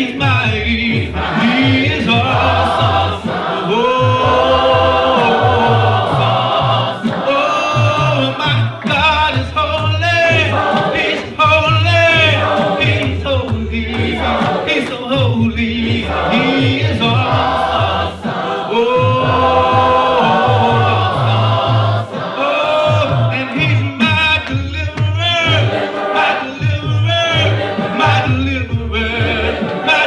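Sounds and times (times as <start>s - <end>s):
low bass notes: 0.0s - 3.3s, 4.0s - 7.0s, 7.8s - 14.5s, 15.1s - 18.2s, 19.0s - 22.1s, 22.9s - 25.8s, 26.6s - 29.6s
voices singing gospel: 0.0s - 30.0s.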